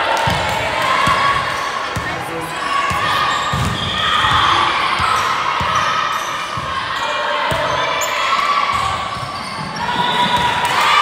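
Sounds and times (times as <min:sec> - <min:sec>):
players and spectators shouting: 0:00.0 - 0:11.0.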